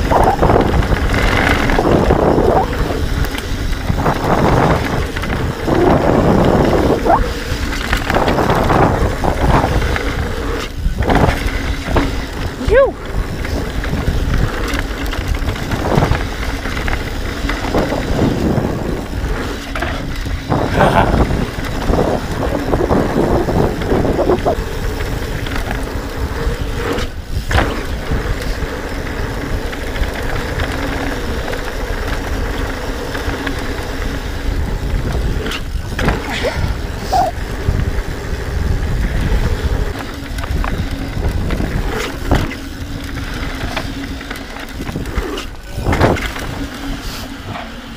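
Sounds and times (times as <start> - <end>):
bike tyres rolling over dirt: 0.0 - 47.9
wind buffeting microphone: 0.0 - 47.9.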